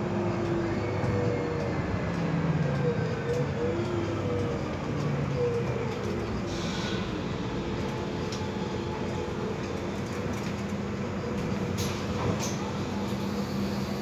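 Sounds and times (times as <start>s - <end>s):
bus running noise with low hum: 0.0s - 14.0s.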